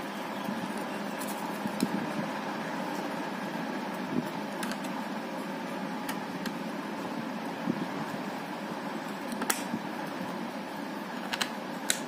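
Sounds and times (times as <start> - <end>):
steady fan hum: 0.0 - 12.0.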